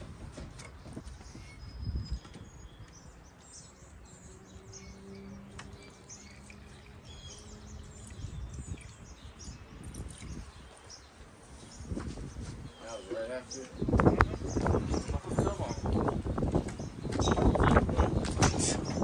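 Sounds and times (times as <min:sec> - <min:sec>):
birds chirping: 0:00.3 - 0:19.0.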